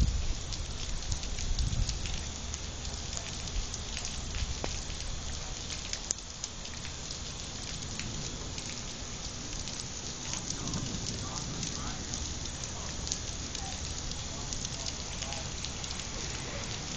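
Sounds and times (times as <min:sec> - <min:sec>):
rain drops ticking: 0:00.0 - 0:16.9
steady low rumble: 0:00.0 - 0:16.9.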